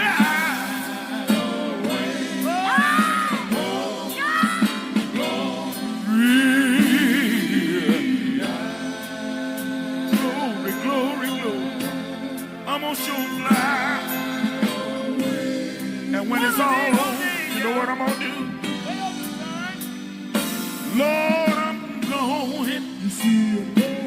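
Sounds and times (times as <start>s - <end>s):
gospel lead voice singing runs: 0.0s - 19.8s, 20.8s - 24.0s
held instrumental chords: 0.0s - 23.8s.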